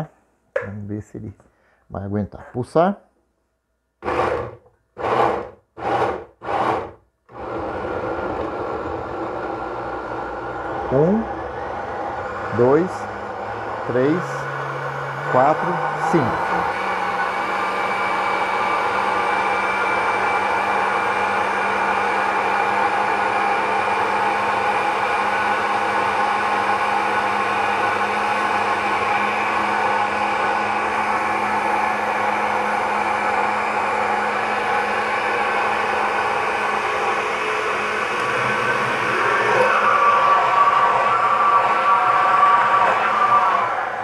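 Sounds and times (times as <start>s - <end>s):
blender motor running: 4.0s - 44.0s.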